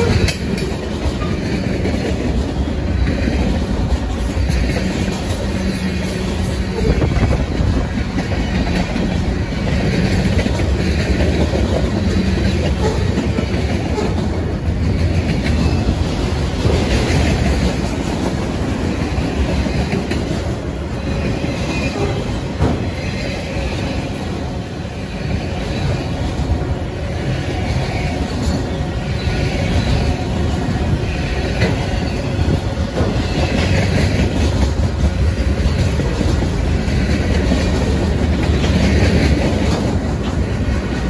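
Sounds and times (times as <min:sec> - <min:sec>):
freight train wheels on rails: 0:00.0 - 0:41.0.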